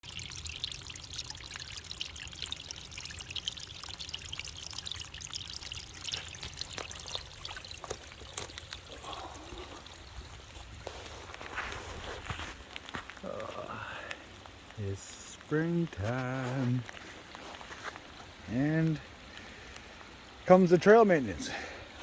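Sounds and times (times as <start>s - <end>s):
water drips ticking: 0.0s - 21.9s
water trickling and splashing: 0.0s - 22.0s.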